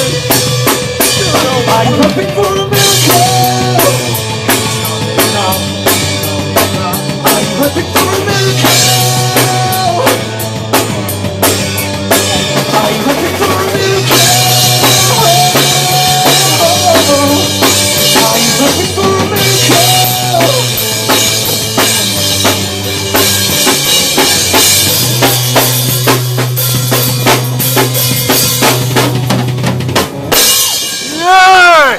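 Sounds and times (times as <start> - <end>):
lead melody: 0.0 - 31.1
bass line: 0.0 - 31.9
drum kit beat with cymbals: 0.0 - 31.9.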